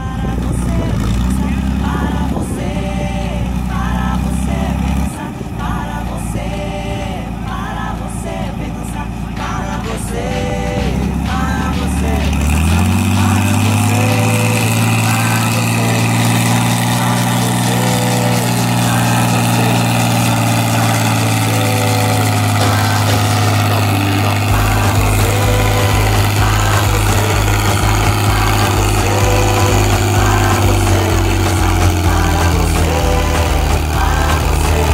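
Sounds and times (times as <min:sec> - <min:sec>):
low rhythmic throb: 0:00.0 - 0:34.9
tractor diesel engine under load: 0:00.0 - 0:34.9.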